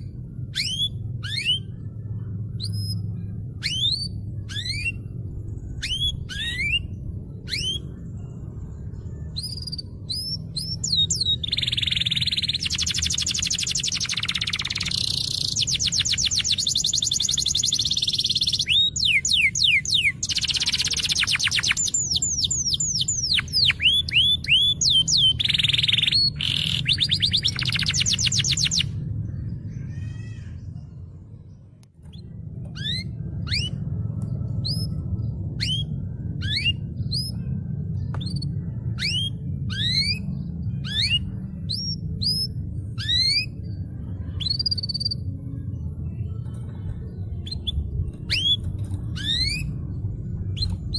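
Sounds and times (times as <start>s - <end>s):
canary singing with trills: 0.0s - 50.9s
steady low hum: 0.0s - 50.9s.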